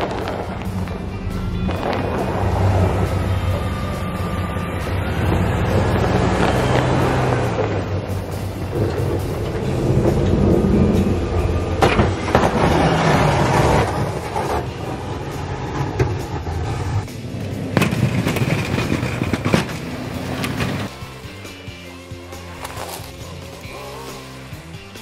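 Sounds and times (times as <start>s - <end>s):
plow blade scraping snow: 0.0s - 25.0s
truck engine running: 0.0s - 25.0s.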